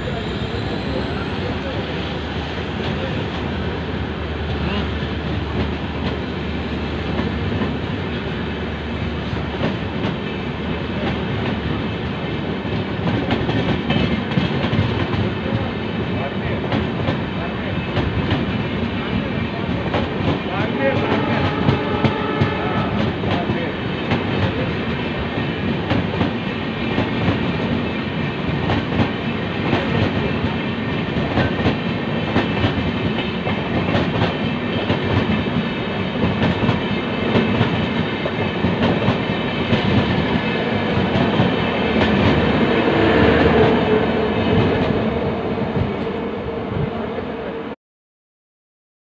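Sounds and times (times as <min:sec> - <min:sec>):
train wheels rushing on rail: 0:00.0 - 0:47.7.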